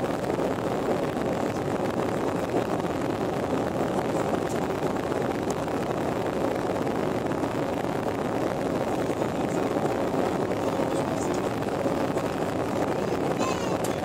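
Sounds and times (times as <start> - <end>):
jet engines roaring: 0.0 - 14.0
rushing air: 0.0 - 14.0.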